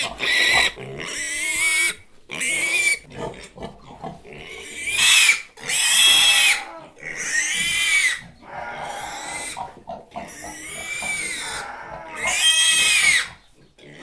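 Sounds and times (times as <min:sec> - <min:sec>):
pig squealing: 0:00.0 - 0:14.0
quiet low pig sounds: 0:00.0 - 0:14.0.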